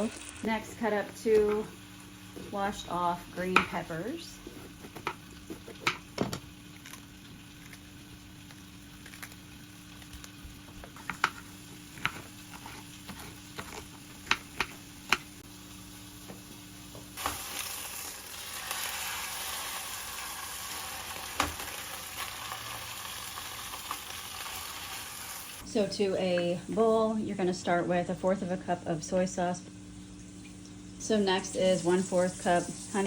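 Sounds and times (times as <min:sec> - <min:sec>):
food sizzling in a pan: 0:00.0 - 0:25.6, 0:29.8 - 0:33.0.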